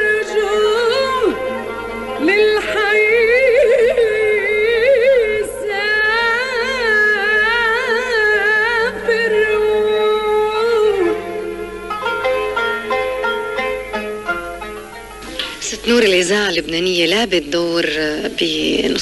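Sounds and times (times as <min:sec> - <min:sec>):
instrumental backing: 0:00.0 - 0:06.3, 0:08.4 - 0:19.0
woman singing ornamented melody: 0:00.0 - 0:13.0, 0:15.2 - 0:19.0.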